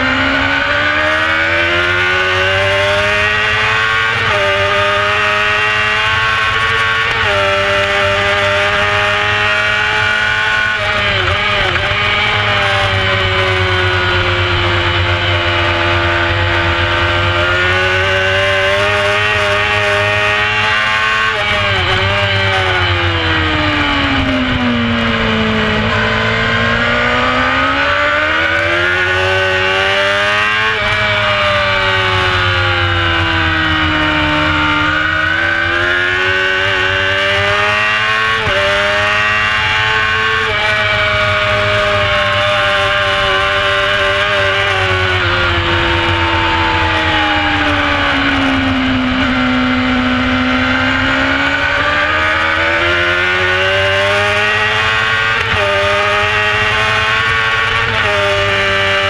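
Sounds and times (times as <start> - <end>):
motorcycle engine at race pace: 0.0 - 59.0.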